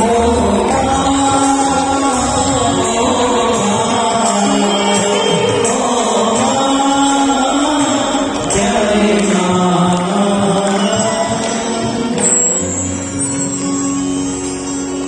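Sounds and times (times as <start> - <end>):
music with sliding vocal notes: 0.0 - 15.0.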